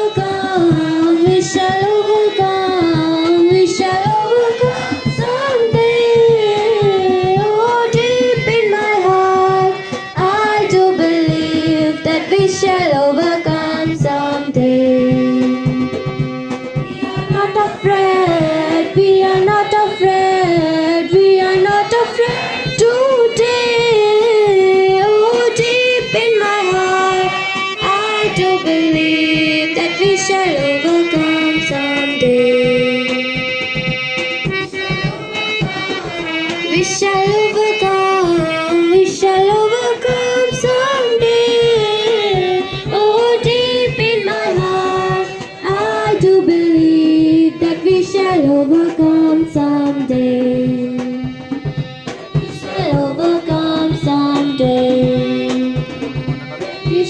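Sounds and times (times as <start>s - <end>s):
person singing: 0.0s - 16.2s, 17.0s - 33.4s, 34.6s - 51.4s, 52.4s - 57.0s
drum beat: 0.0s - 57.0s
instrumental accompaniment: 0.0s - 57.0s.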